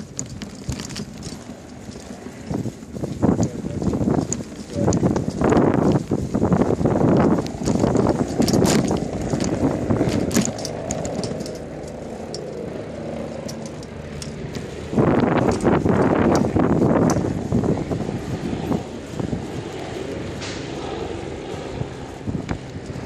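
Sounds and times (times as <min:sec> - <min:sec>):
trailer clicking and rattling: 0:00.0 - 0:19.8
wind rushing over microphone: 0:00.0 - 0:23.0.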